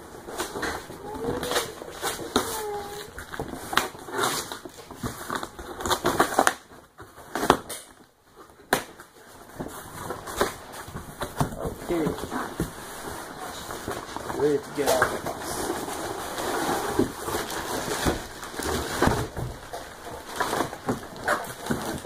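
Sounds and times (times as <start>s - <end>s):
cardboard crackling and scraping: 0.0s - 22.0s.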